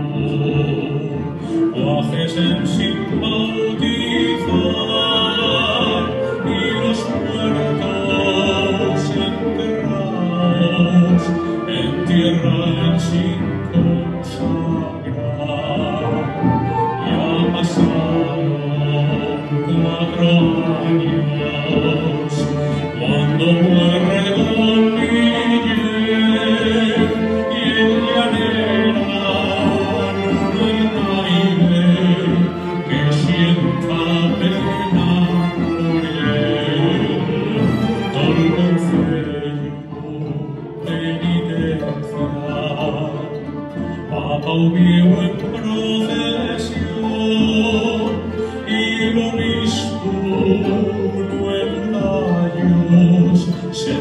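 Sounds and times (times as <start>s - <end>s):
plucked string instrument: 0.0s - 54.0s
string orchestra playing: 0.0s - 54.0s.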